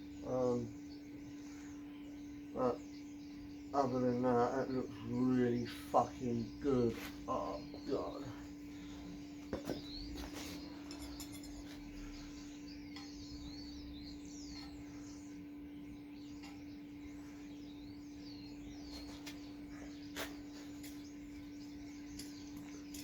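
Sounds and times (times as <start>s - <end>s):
small birds singing: 0.0s - 23.0s
steady low hum: 0.0s - 23.0s.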